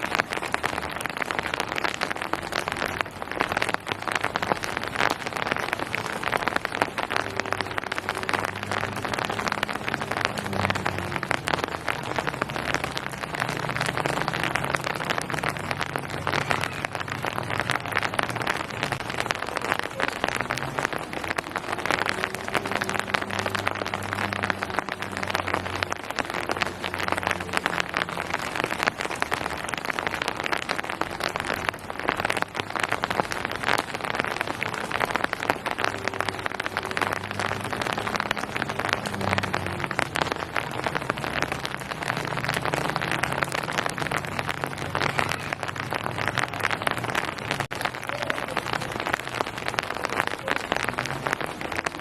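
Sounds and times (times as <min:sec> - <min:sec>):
rain patter: 0:00.0 - 0:52.0.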